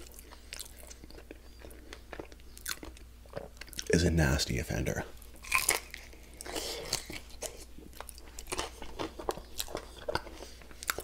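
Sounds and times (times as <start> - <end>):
person crunching and chewing: 0.0 - 4.0, 5.2 - 11.0.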